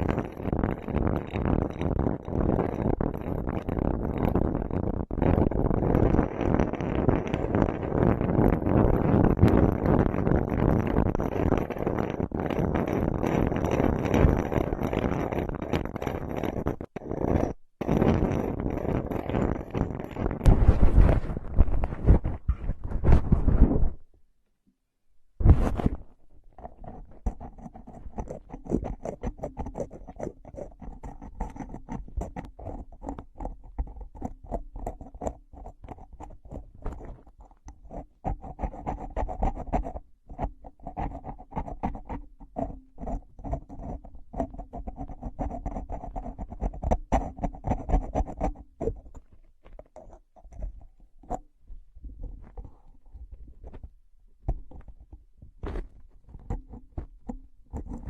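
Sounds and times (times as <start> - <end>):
taps and scratches: 0.0 - 24.1, 25.4 - 58.0.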